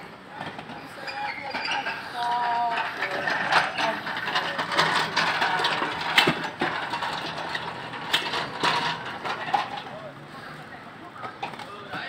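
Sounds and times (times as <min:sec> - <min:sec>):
pallet jack rattling over bricks: 0:00.4 - 0:10.2.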